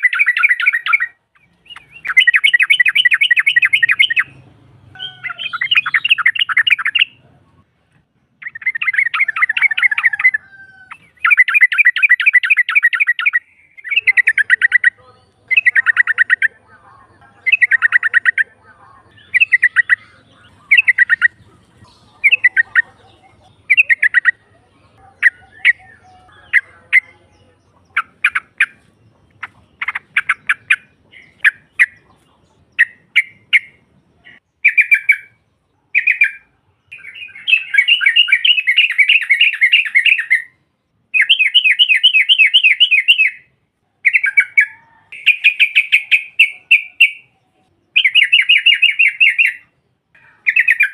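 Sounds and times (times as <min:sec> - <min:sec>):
bulbul calls: 0:00.0 - 0:07.3, 0:08.4 - 0:50.9.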